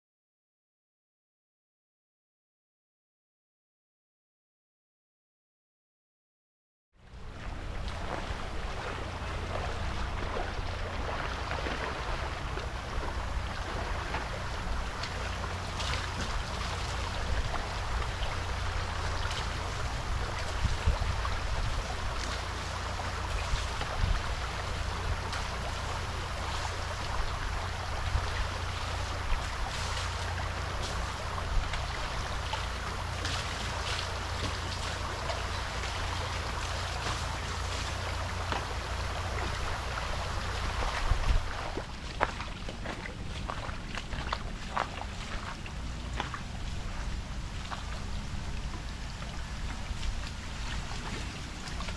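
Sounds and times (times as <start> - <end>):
deep low rumble: 7.0 - 51.9
water rushing: 7.1 - 51.9
sharp knocks or splashes: 7.8 - 51.9.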